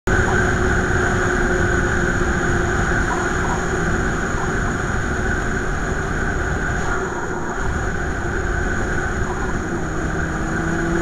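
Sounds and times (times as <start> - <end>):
vehicle road noise: 0.0 - 11.0
wind rush: 0.1 - 11.0.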